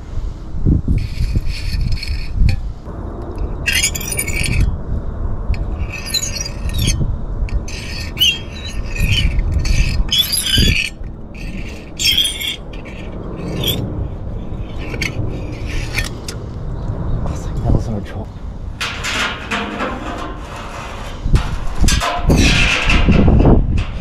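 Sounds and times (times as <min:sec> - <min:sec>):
steady low rumble: 0:00.0 - 0:24.0
scrap metal scraping and squealing: 0:00.9 - 0:04.8, 0:05.5 - 0:16.5, 0:18.8 - 0:24.0.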